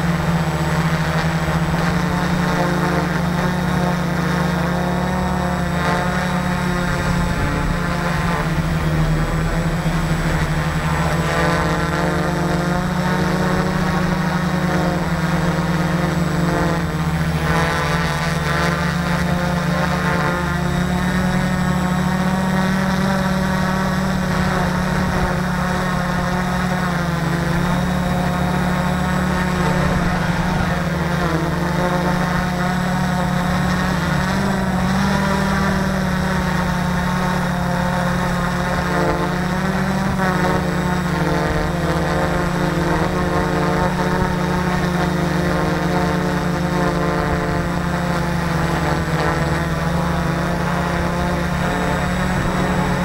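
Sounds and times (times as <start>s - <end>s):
multicopter motors whining: 0.0s - 53.0s.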